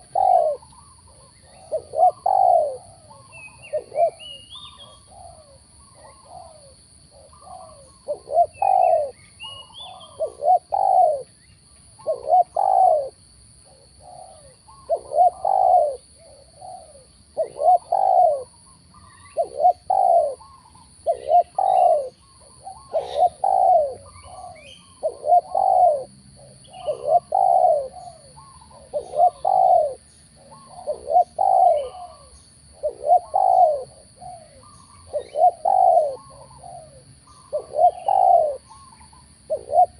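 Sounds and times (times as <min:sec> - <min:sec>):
dove cooing: 0:00.0 - 0:11.4, 0:12.0 - 0:39.9.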